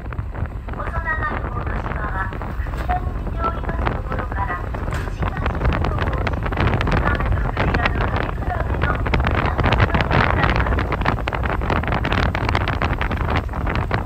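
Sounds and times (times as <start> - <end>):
boat motor rumble: 0.0 - 14.0
wind buffeting microphone: 0.0 - 14.0.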